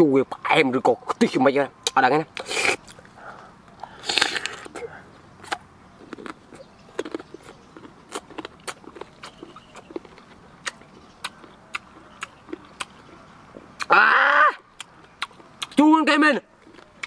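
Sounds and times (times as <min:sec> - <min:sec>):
crunchy chewing of raw mango: 0:02.3 - 0:15.8, 0:16.4 - 0:17.0.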